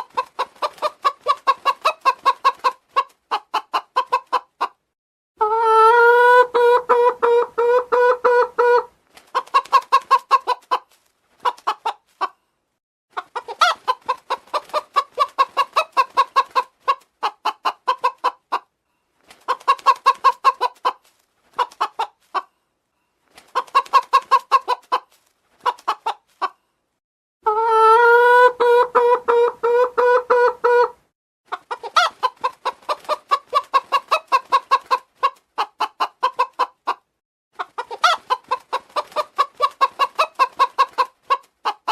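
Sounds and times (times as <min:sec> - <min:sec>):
chicken clucking: 0:00.0 - 0:12.5, 0:13.1 - 0:22.7, 0:23.3 - 0:26.7, 0:27.4 - 0:41.9.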